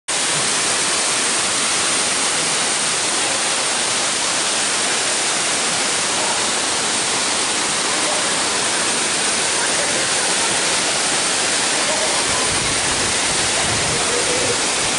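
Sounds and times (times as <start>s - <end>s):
waterfall rushing: 0.1s - 14.9s.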